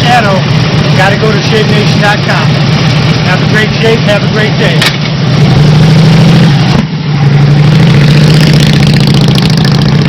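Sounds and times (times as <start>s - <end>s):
engine running loud: 0.0s - 10.0s.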